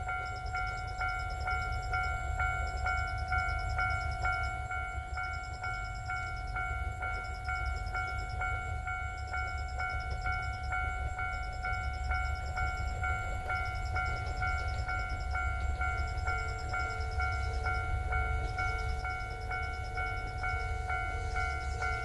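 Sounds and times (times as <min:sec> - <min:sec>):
level crossing warning bell: 0:00.0 - 0:22.0.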